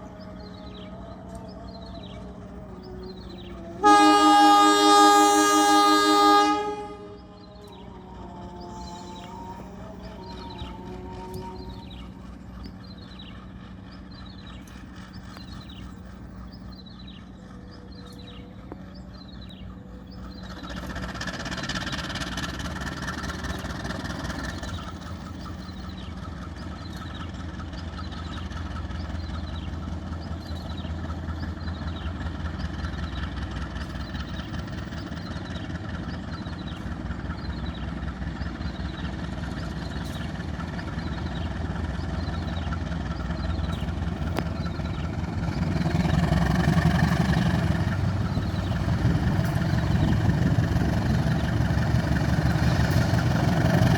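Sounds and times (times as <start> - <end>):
diesel locomotive engine rumbling: 0.0 - 53.9.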